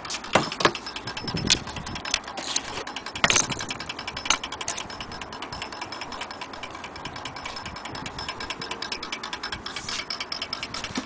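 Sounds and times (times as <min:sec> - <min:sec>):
fast rhythmic background noise: 0:00.0 - 0:11.0
handling knocks and clicks: 0:00.0 - 0:11.0.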